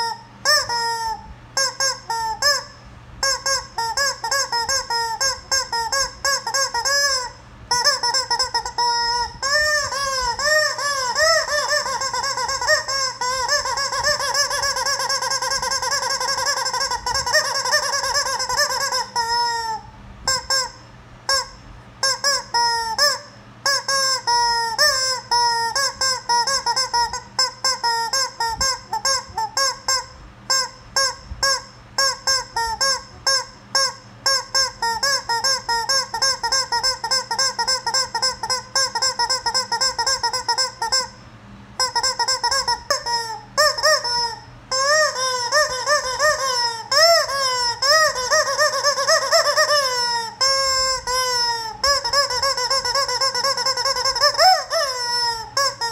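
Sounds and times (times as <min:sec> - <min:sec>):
rubber chicken toy squawking: 0:00.0 - 0:41.2, 0:41.8 - 0:55.9.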